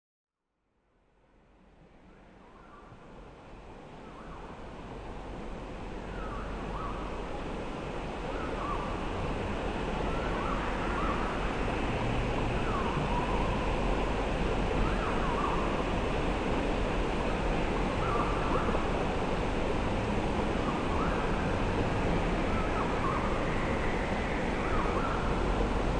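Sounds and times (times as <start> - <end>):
flowing river water: 2.8 - 25.9.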